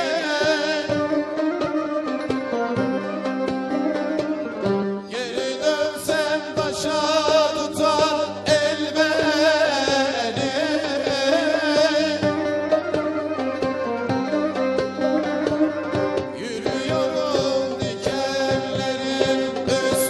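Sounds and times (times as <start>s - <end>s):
hand percussion: 0.0s - 20.0s
plucked strings: 0.0s - 20.0s.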